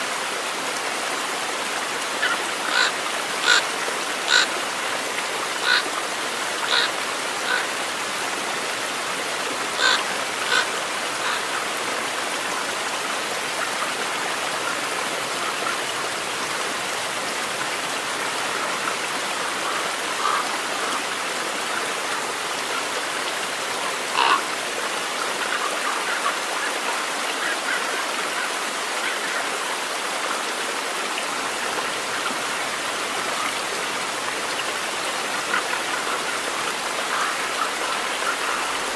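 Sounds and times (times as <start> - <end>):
stream water running over stones: 0.0 - 38.9.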